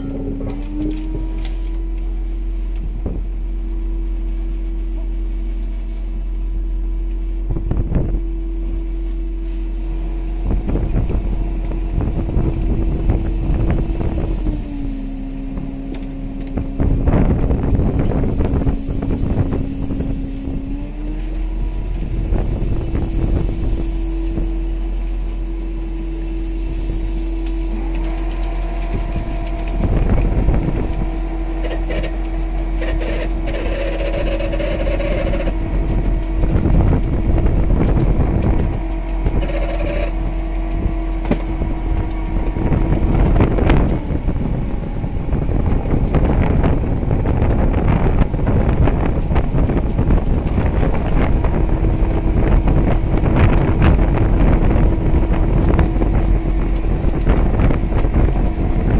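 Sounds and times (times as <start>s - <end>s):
boat engine humming: 0.0s - 58.9s
wind buffeting microphone: 2.8s - 4.4s, 7.4s - 58.9s.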